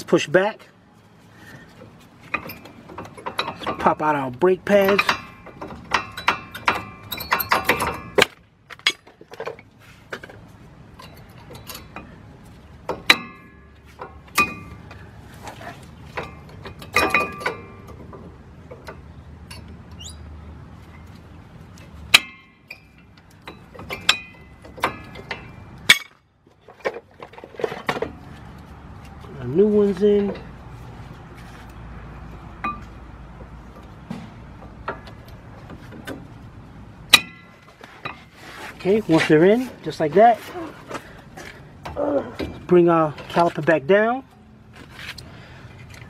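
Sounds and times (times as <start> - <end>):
metallic clicks of brake pads: 1.4 - 20.2, 20.8 - 36.5, 40.8 - 46.0.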